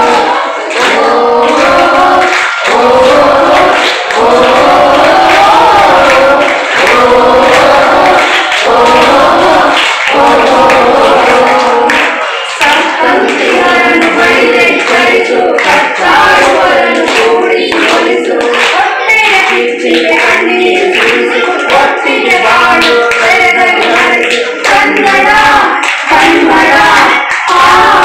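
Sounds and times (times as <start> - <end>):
group singing in chorus: 0.0 - 28.0
hands clapping: 0.0 - 28.0.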